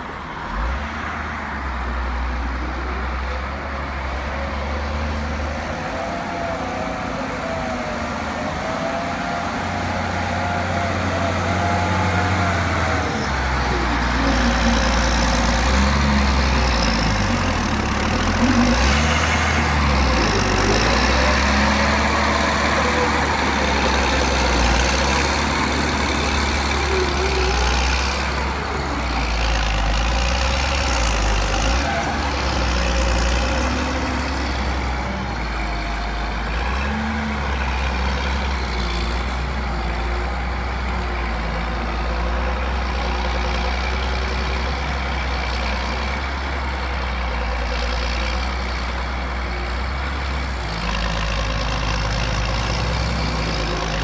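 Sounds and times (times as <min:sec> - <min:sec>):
diesel machinery engine rumble: 0:00.0 - 0:54.0.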